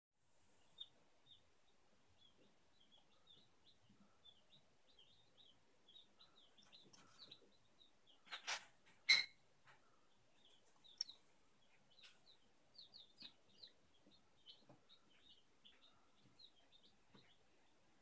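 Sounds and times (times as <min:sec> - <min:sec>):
chicks peeping: 0:00.5 - 0:18.0.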